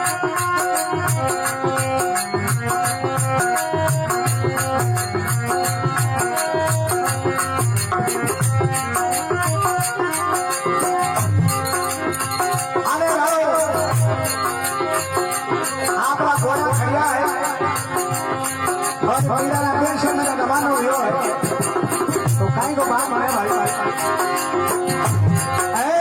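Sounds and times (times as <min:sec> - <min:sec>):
drum beat: 0:00.0 - 0:26.0
jingling hand percussion: 0:00.0 - 0:26.0.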